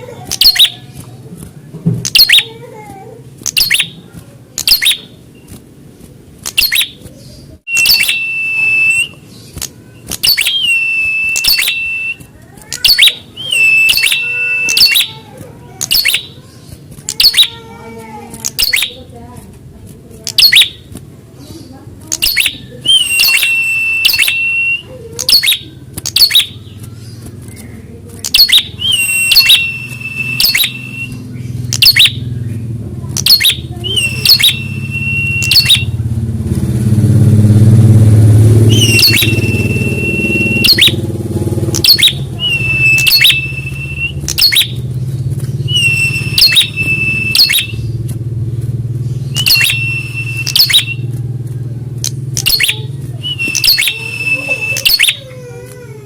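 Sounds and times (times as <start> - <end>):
bird calling clicks and whistle: 0.0 - 2.6, 3.4 - 5.7, 6.3 - 19.1, 20.2 - 36.0, 38.7 - 41.0, 41.7 - 48.2, 49.2 - 51.2, 52.0 - 55.8
low engine rumble: 0.0 - 56.0.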